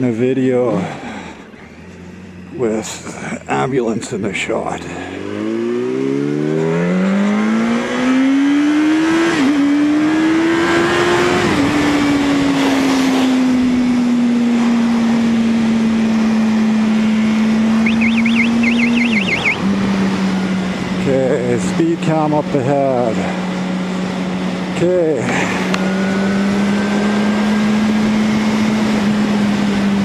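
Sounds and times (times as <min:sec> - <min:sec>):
motorcycle engine accelerating: 0:05.0 - 0:30.0.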